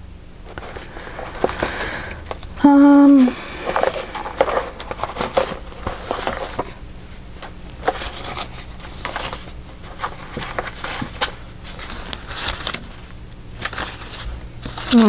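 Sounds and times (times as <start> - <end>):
paper and packaging rustling: 0.4 - 15.0.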